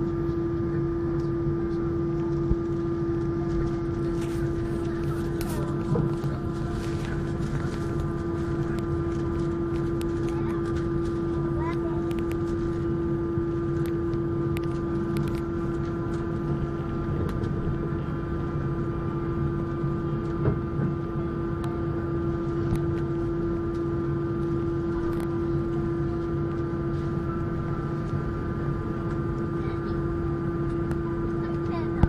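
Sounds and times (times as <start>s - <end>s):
airliner cabin hum and whine: 0.0s - 32.0s.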